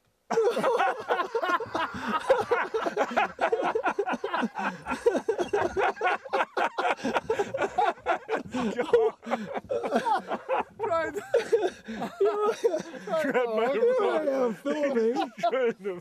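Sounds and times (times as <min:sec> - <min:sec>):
men laughing: 0:00.3 - 0:16.0.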